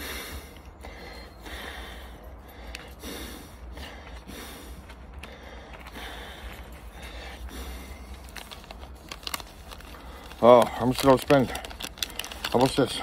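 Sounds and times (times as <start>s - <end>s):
man breathing heavily: 0.0s - 13.0s
steady low rumble: 0.0s - 13.0s.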